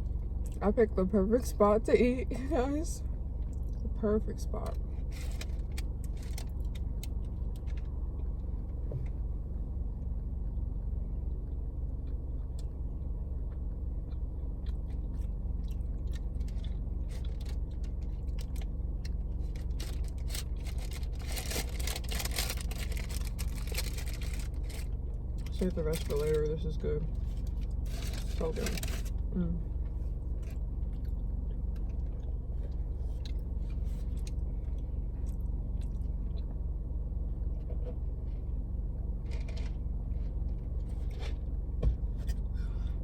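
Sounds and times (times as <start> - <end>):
low rumble: 0.0 - 43.0.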